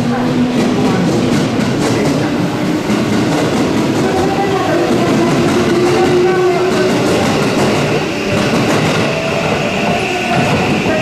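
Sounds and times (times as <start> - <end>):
high train whine: 0.0 - 11.0
train wheels clattering on rails: 0.0 - 11.0.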